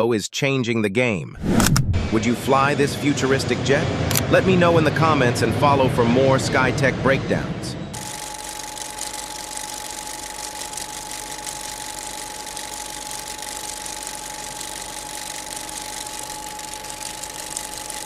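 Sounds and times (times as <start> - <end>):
jet engine running: 1.6 - 18.0.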